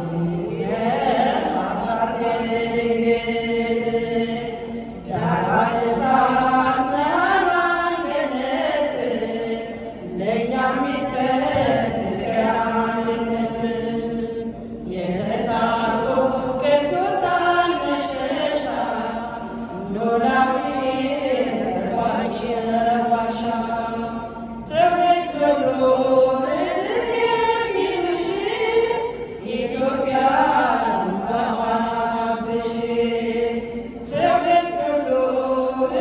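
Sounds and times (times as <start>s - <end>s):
women's choir singing a hymn: 0.0s - 36.0s.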